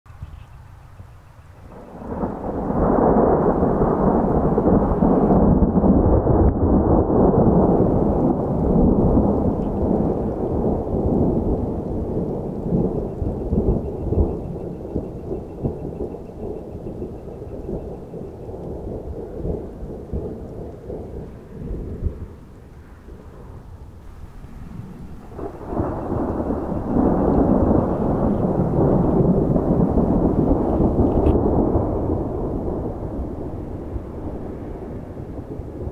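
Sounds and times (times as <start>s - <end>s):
rolling thunder rumble: 0.1s - 35.9s.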